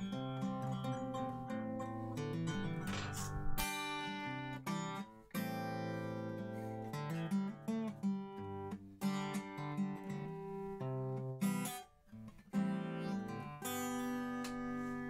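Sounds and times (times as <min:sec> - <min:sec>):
guitar picked notes and strummed chords: 0:00.0 - 0:15.0.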